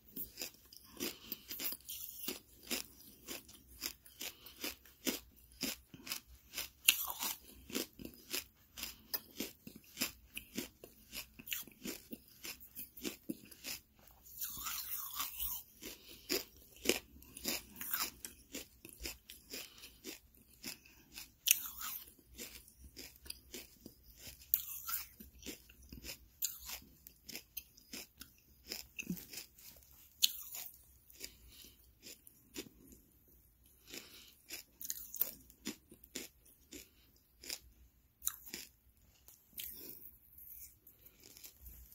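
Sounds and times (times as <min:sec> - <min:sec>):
charcoal crunching in a mouth: 0:00.1 - 0:33.0, 0:33.6 - 0:41.9.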